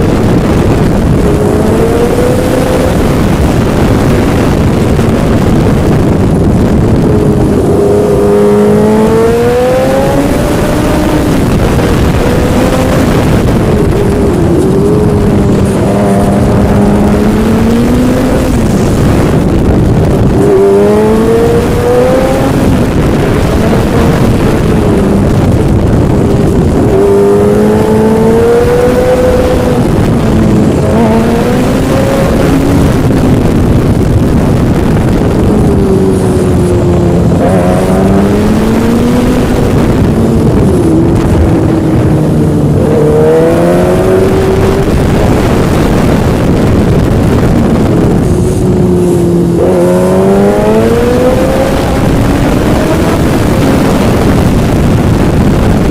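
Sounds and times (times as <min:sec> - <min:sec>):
heavy low rumbling: 0:00.0 - 0:55.9
motorcycle engine accelerating: 0:00.0 - 0:55.9.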